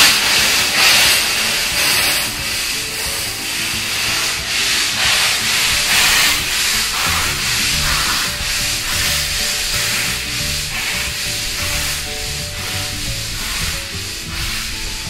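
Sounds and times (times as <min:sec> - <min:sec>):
soft background music: 0:00.0 - 0:15.0
steam hissing: 0:00.0 - 0:15.0
steam locomotive chuffing: 0:00.0 - 0:15.0.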